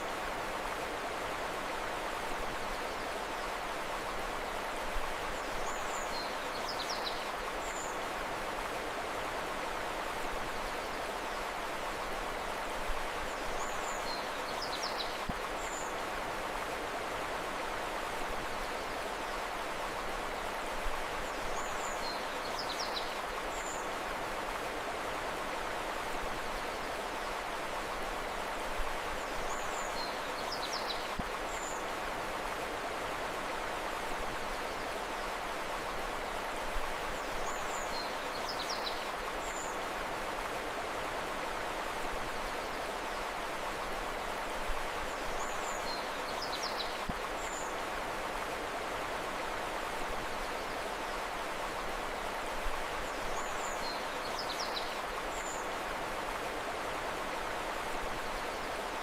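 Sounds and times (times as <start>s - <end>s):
running river water: 0.0s - 59.0s.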